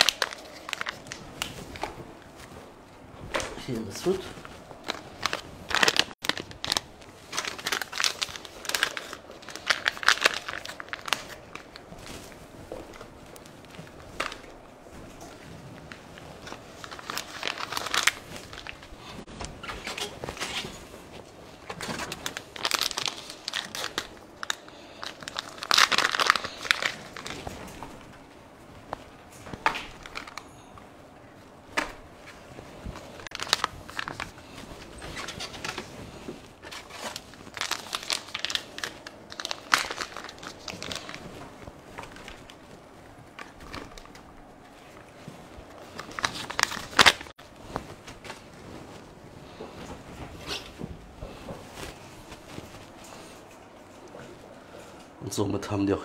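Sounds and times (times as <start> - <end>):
plastic packaging crinkling: 0.0 - 2.6, 3.6 - 30.9, 31.6 - 54.2.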